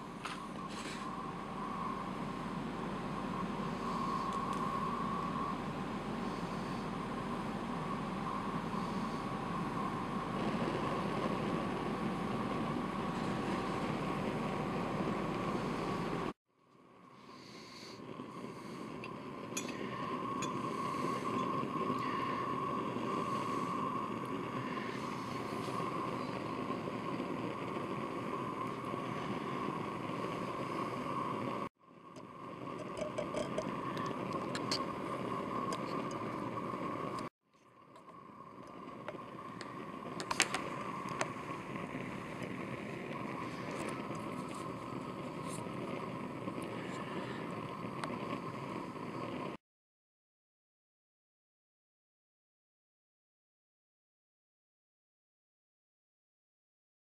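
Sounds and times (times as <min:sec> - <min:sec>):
water heating hissing rumble: 0:00.0 - 0:16.4, 0:17.2 - 0:49.6.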